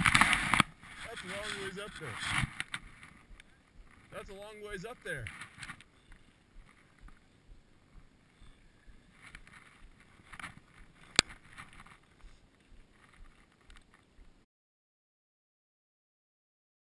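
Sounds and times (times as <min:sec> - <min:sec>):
faint wind noise: 0:00.0 - 0:14.4
light rustling: 0:00.0 - 0:14.4.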